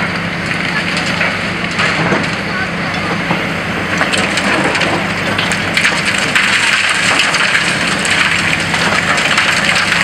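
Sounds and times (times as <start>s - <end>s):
concrete rubble crackling and clattering: 0.0s - 10.0s
diesel engine drone: 0.0s - 10.0s.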